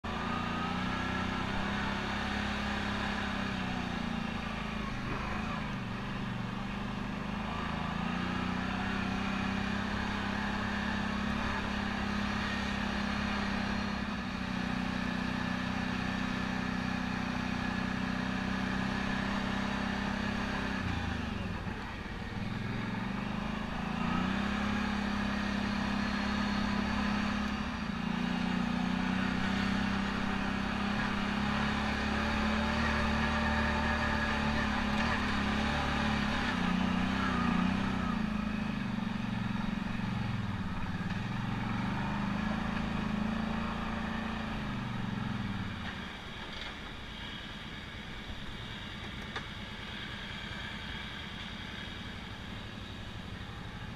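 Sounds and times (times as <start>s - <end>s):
quad bike engine running: 0.0s - 53.9s.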